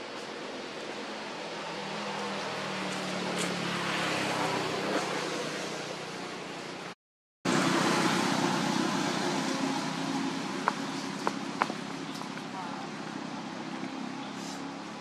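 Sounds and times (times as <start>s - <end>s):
rushing outdoor noise: 0.0s - 15.0s.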